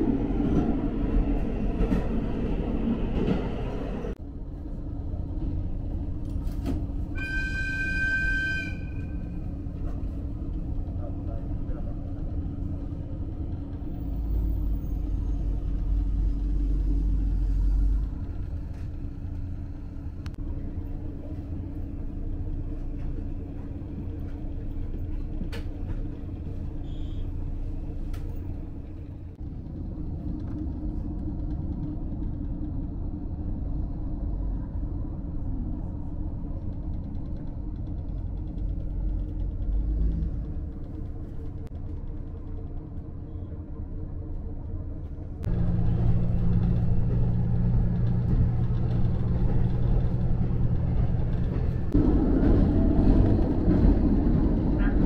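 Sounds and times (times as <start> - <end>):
train diesel engine drone: 0.0 - 55.0.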